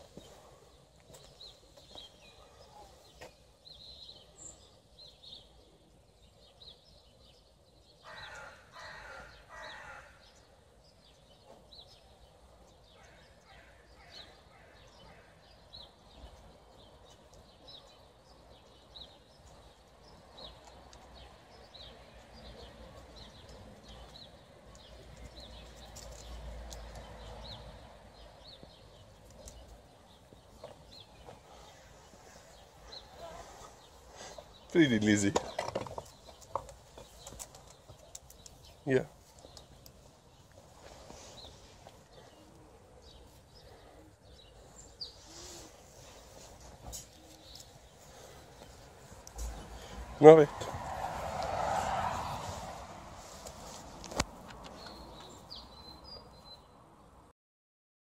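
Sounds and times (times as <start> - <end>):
small birds chirping: 0.0 - 57.3.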